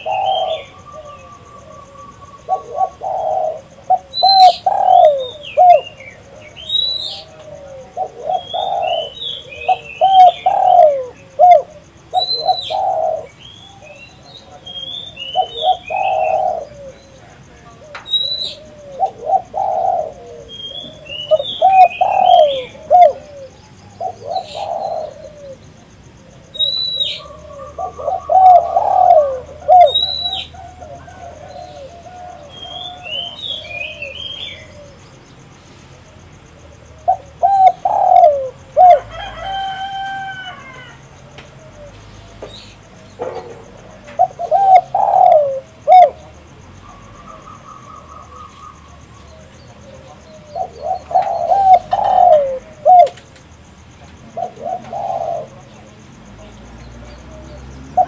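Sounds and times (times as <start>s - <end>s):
dove cooing: 0.0s - 58.0s
small birds chirping: 0.0s - 58.0s.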